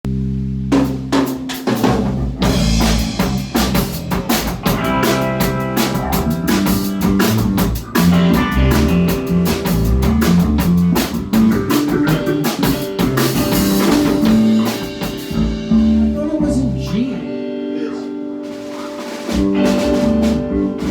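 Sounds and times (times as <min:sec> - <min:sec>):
electric bass: 0:00.0 - 0:17.5, 0:19.3 - 0:20.9
drum kit beat: 0:00.6 - 0:17.0, 0:18.4 - 0:20.9
electric guitar: 0:01.5 - 0:20.9.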